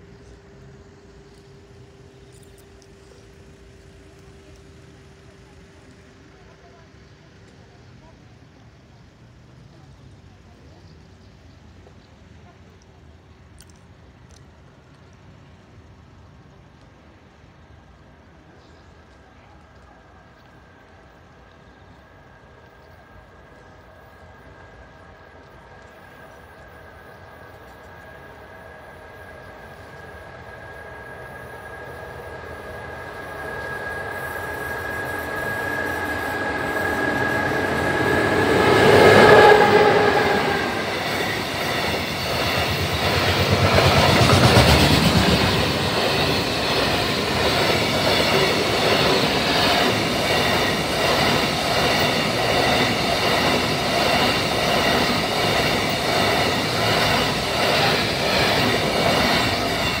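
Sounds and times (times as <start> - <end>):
train high whine: 0.0 - 11.6, 16.2 - 60.0.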